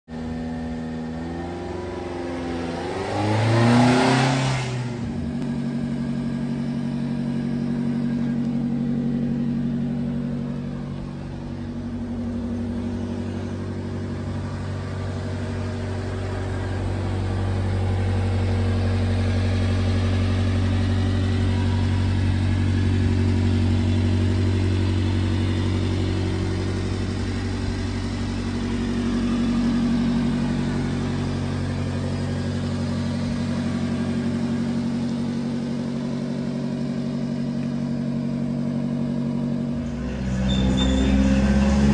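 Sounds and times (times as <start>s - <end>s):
truck engine idling: 5.0s - 41.9s.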